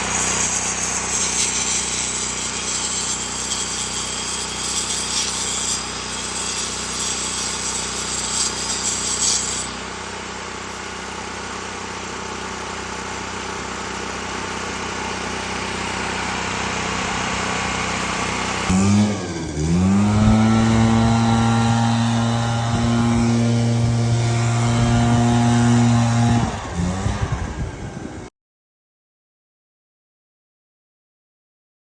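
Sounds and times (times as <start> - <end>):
power tool whirring on wood: 0.0 - 28.2.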